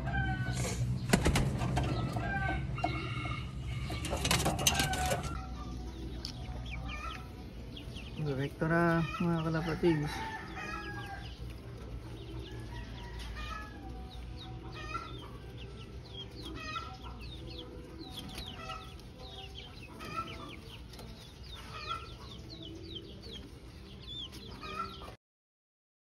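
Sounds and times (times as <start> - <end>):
chickens clucking: 0.0 - 25.2.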